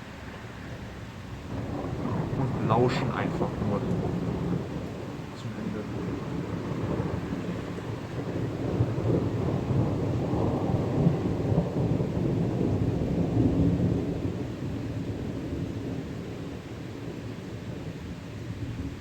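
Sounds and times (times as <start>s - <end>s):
rolling thunder: 1.3s - 19.0s.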